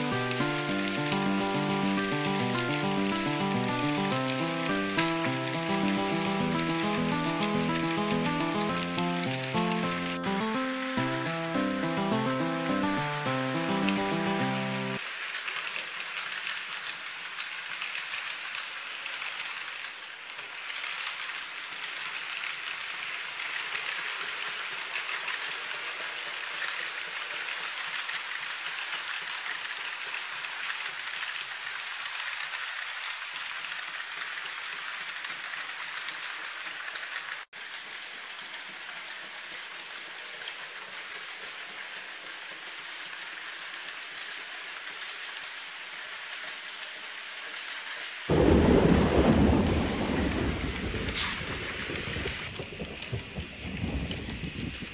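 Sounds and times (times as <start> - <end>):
model train wheels clattering: 0.0 - 48.3, 49.6 - 54.9.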